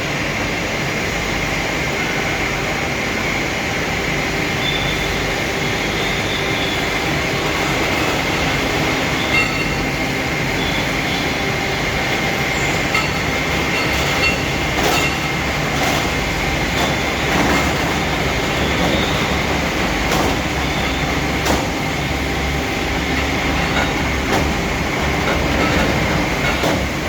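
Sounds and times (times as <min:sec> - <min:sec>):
machinery rumbling hum: 0:00.0 - 0:27.0.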